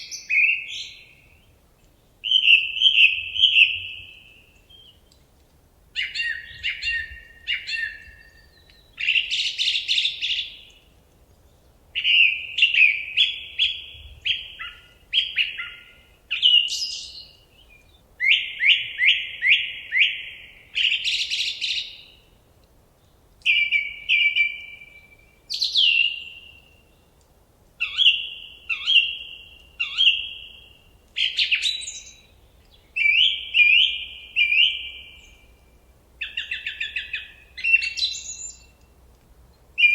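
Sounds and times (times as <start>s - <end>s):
songbird whistling phrases: 0.0s - 1.4s, 2.2s - 5.0s, 6.0s - 10.7s, 12.0s - 22.2s, 23.4s - 27.0s, 27.8s - 35.6s, 36.2s - 38.8s.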